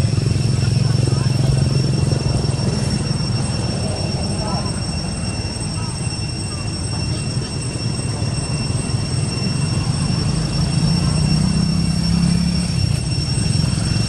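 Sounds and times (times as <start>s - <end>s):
distant motor rumble: 0.0s - 14.0s
high-pitched tones: 0.0s - 14.0s.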